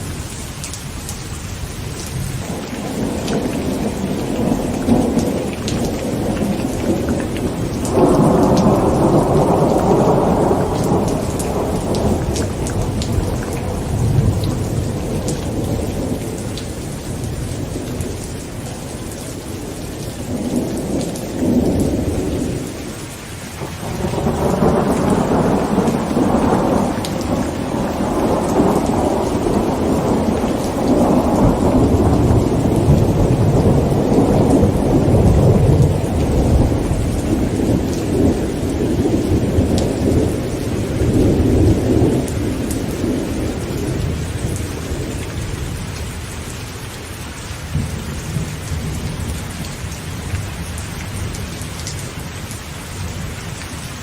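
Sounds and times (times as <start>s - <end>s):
heavy rain on a tent: 0.0s - 54.0s
rolling thunder: 2.0s - 22.8s, 23.6s - 46.1s, 47.7s - 51.5s.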